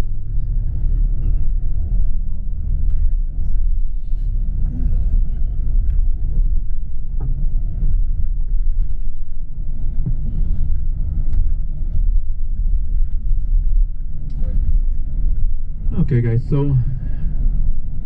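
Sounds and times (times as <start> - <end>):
bus engine rumble inside cabin: 0.0 - 18.0
faint rattles and clicks: 0.0 - 18.0.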